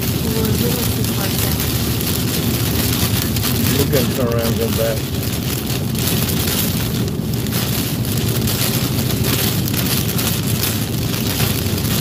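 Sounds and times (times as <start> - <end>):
rain hitting a car: 0.0 - 12.0
tyre noise on wet road: 0.0 - 12.0.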